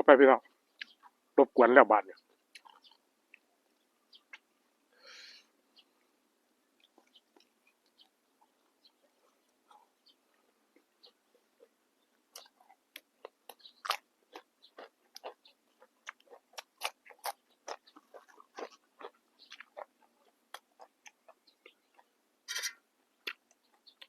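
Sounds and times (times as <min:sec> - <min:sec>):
chewing crisp raw vegetables: 0:00.4 - 0:01.3, 0:02.2 - 0:04.5, 0:06.7 - 0:22.3, 0:23.0 - 0:24.0.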